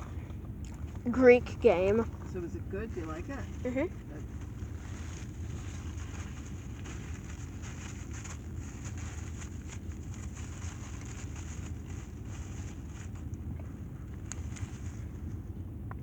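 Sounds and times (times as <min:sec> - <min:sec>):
low rumble of engine and road: 0:00.0 - 0:16.0.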